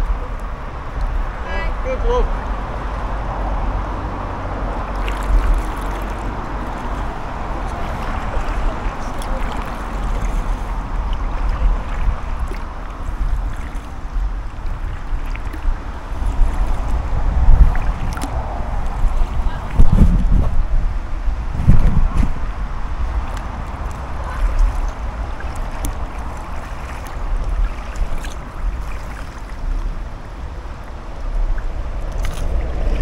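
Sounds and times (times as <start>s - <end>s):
wind rumble on microphone: 0.0s - 33.0s
paddle splashing in water: 2.3s - 20.7s, 21.5s - 33.0s.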